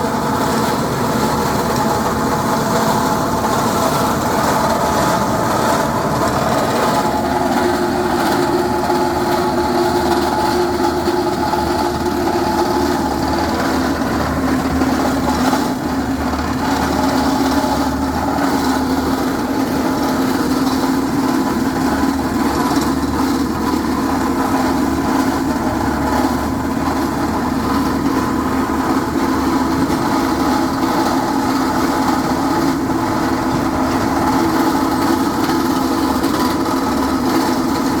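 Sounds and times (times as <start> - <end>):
drilling rig grinding concrete: 0.0 - 38.0.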